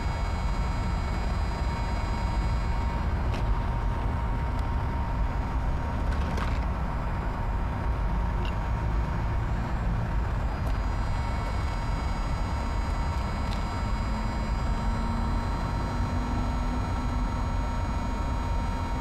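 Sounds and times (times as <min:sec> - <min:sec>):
low rumble of city noise: 0:00.0 - 0:19.0.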